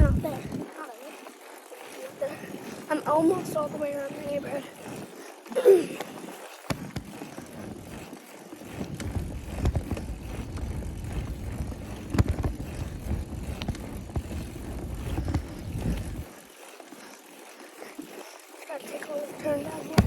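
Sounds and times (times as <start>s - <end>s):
bicycle tyre noise: 0.0s - 20.0s
wind buffeting microphone: 0.0s - 20.0s.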